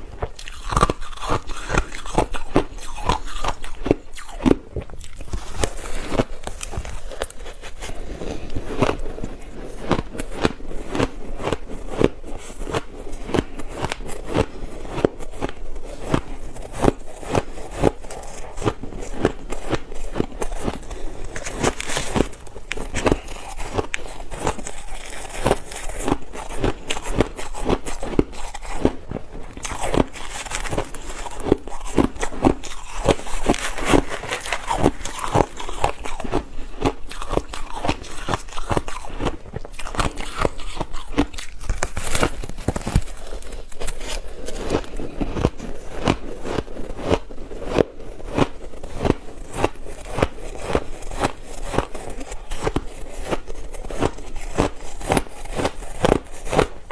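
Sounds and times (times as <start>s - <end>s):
chewing ice crunches: 0.0s - 56.9s.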